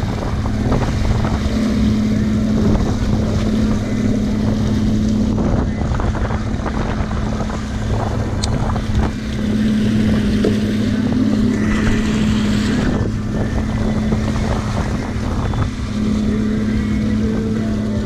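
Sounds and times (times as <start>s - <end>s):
boat motor humming: 0.0s - 18.0s
wind buffeting microphone: 0.0s - 18.0s.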